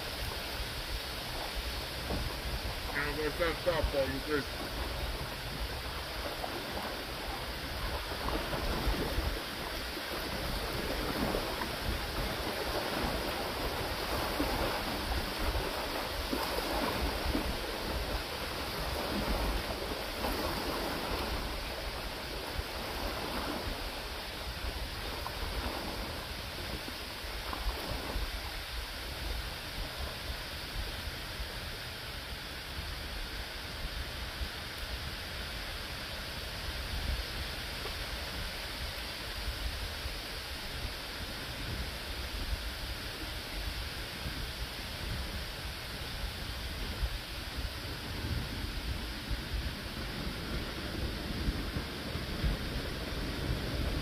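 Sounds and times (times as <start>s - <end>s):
waves lapping on sandy bank: 0.0s - 54.0s
wind rumbling on microphone: 0.0s - 54.0s.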